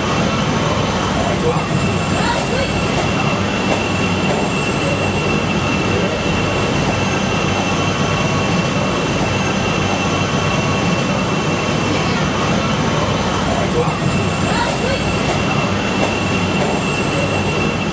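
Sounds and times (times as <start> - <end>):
elevated train rumbling: 0.0 - 17.9
high-pitched whine: 0.0 - 17.9.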